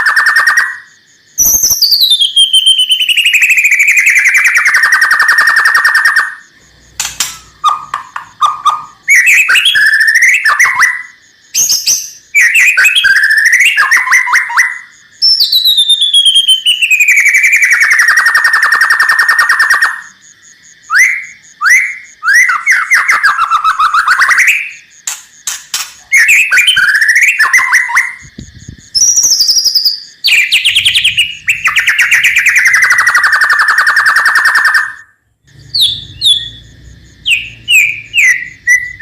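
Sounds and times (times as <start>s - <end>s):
songbird rattling trill: 0.0s - 20.1s, 21.2s - 39.0s
songbird chattering and whistling: 0.0s - 39.0s.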